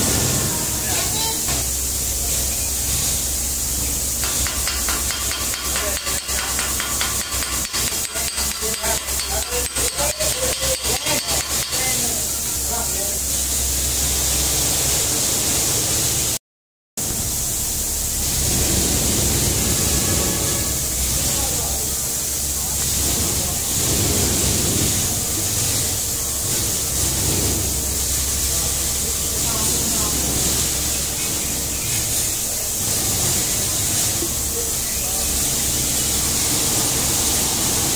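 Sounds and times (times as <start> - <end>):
steady hissing noise: 0.0 - 16.4, 17.0 - 37.9.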